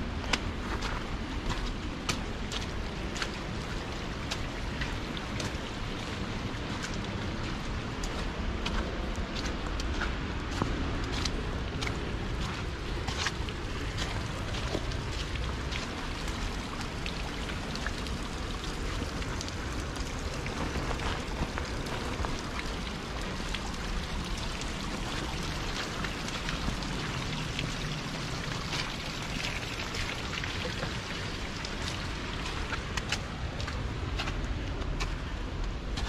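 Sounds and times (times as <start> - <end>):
footsteps on wet trail: 0.0 - 36.0
light rain pattering: 0.0 - 36.0
water dripping on rock: 0.2 - 36.0.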